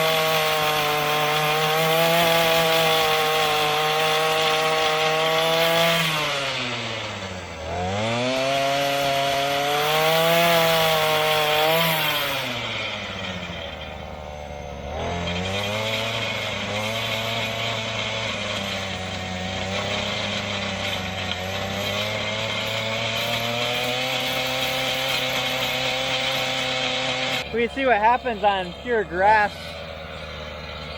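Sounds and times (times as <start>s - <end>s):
two-stroke tiller engine running: 0.0s - 30.9s.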